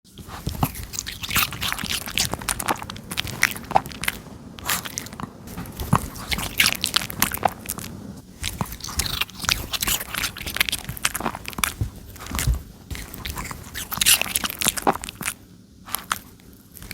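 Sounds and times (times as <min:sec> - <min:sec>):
dog chewing crunchy fruit: 0:00.1 - 0:16.9.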